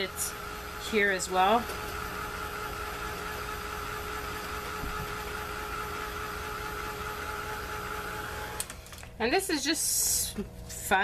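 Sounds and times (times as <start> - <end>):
small motor whirring hum: 0.0 - 9.1.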